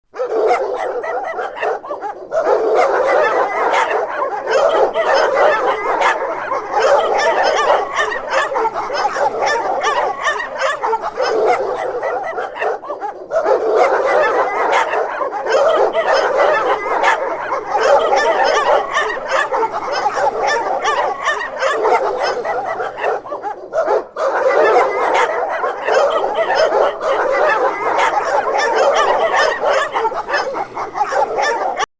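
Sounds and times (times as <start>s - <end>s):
dogs barking: 0.1s - 31.9s
dogs yipping: 0.2s - 31.9s.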